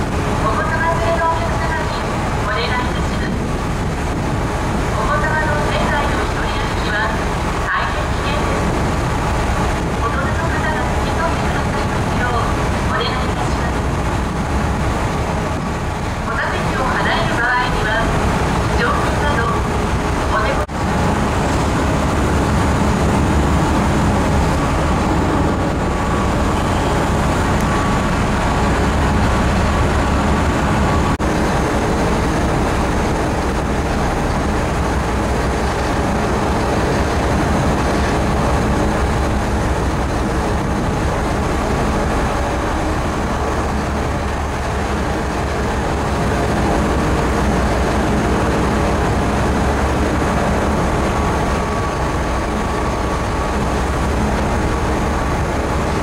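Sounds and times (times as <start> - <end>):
ferry engines droning: 0.0 - 56.0
wind buffeting microphone: 0.0 - 56.0.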